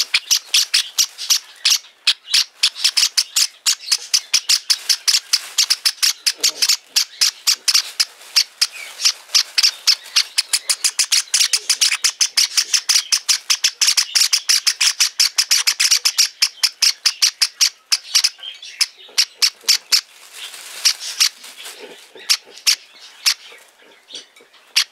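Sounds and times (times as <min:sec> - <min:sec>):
bird chicks cheeping: 0:00.0 - 0:24.9.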